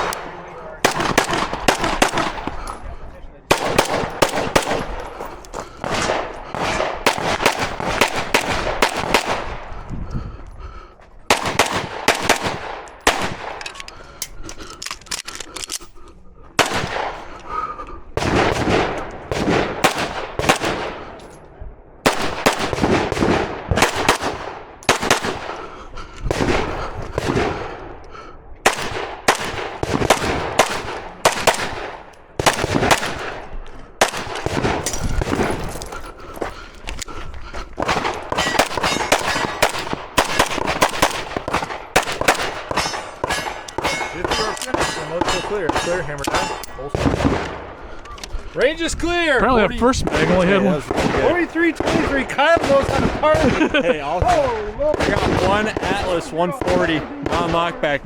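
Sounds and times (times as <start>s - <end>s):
pistol shots: 0.0s - 2.8s, 3.5s - 9.7s, 11.3s - 14.4s, 16.6s - 17.4s, 18.2s - 21.2s, 22.0s - 25.7s, 26.3s - 36.0s, 37.8s - 47.9s, 50.0s - 58.0s
rifle gunshots in bursts: 0.0s - 2.8s, 3.5s - 9.8s, 11.3s - 14.2s, 16.6s - 21.2s, 22.0s - 36.5s, 37.8s - 48.0s, 49.1s - 58.0s.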